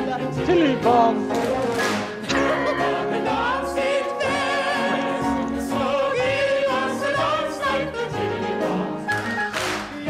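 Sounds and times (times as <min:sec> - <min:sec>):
piano accompaniment: 0:00.0 - 0:10.0
soprano singing: 0:00.0 - 0:10.0.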